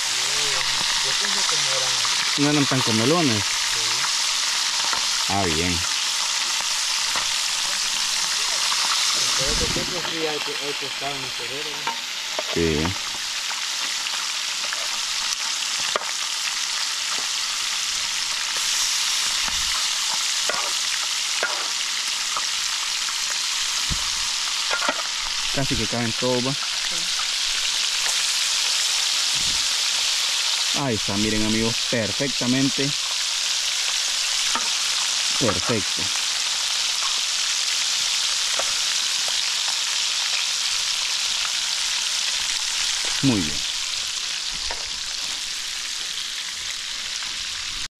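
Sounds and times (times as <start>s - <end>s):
fish sizzling in hot oil: 0.0s - 47.9s.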